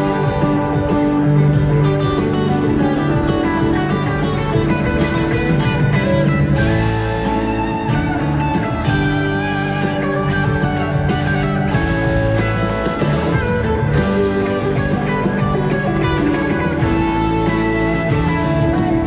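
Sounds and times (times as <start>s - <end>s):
bass guitar: 0.0s - 19.0s
drums: 0.0s - 19.0s
electric guitar lines: 0.0s - 19.0s.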